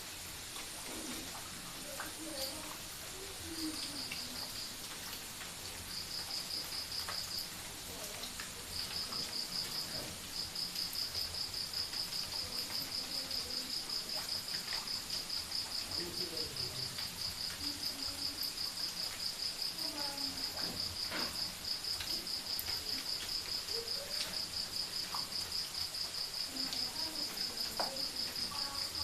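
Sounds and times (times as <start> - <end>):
soft hiss: 0.0 - 29.0.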